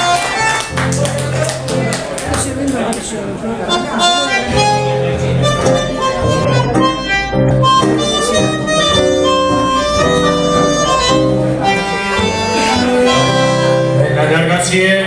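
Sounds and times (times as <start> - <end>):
bandoneon melody: 0.0 - 1.3, 3.6 - 14.5
acoustic guitar: 0.0 - 15.0.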